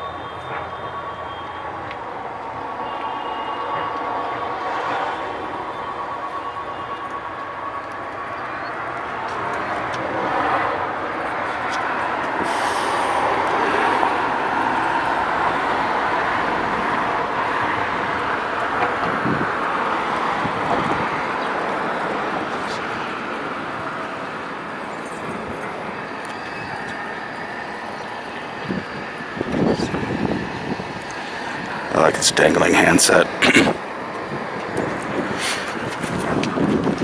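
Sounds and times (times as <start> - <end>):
passing traffic rushing: 0.0 - 37.0.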